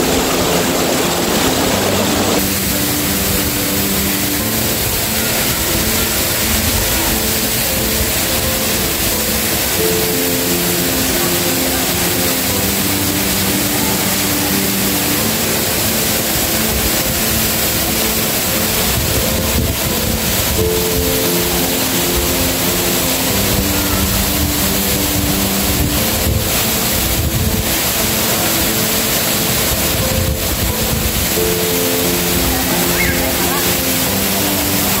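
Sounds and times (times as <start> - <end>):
background music melody: 0.0 - 35.0
waterfall roaring: 0.0 - 35.0.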